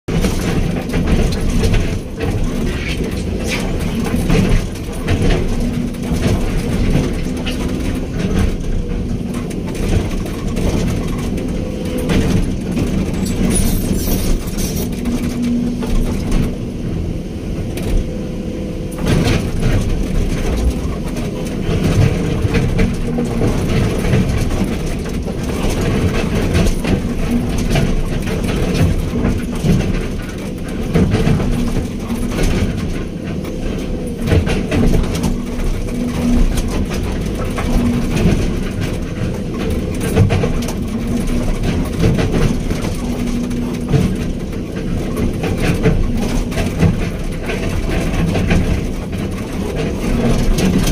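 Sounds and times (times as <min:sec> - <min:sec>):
machine knocks and clanks: 0:00.1 - 0:18.1, 0:18.9 - 0:50.9.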